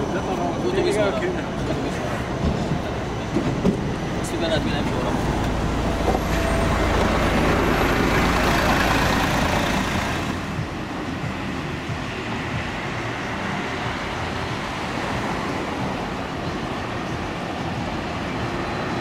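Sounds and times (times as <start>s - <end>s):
bus pulling past: 0.0s - 19.0s
road traffic noise: 0.0s - 19.0s.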